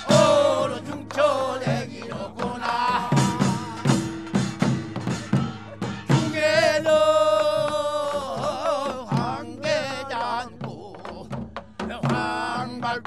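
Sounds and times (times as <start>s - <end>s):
folk singing with vibrato: 0.0s - 4.7s, 5.8s - 13.0s
drum beat: 0.0s - 13.0s.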